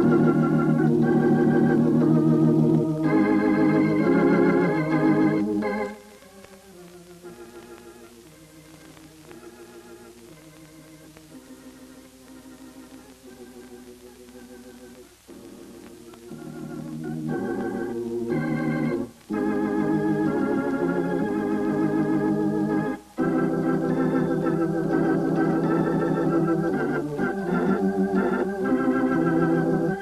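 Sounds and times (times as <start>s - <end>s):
electronic organ chords: 0.0s - 30.0s.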